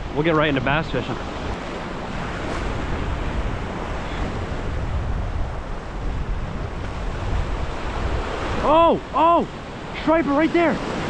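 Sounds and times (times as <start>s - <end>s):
ocean surf over rocks: 0.0s - 11.0s
wind rumbling on microphone: 0.0s - 11.0s.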